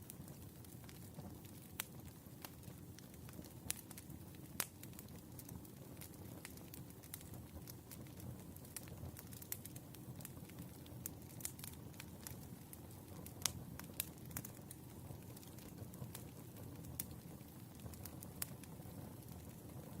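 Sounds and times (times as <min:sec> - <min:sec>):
fire popping and snapping: 0:00.0 - 0:20.0
low fire rumble: 0:00.0 - 0:20.0.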